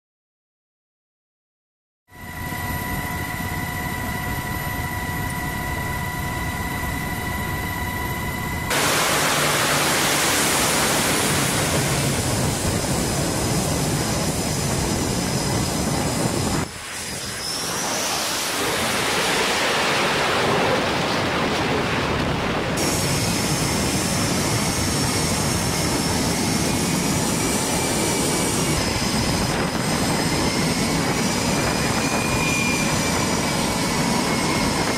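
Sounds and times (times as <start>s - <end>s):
jet engines running: 2.2s - 34.9s.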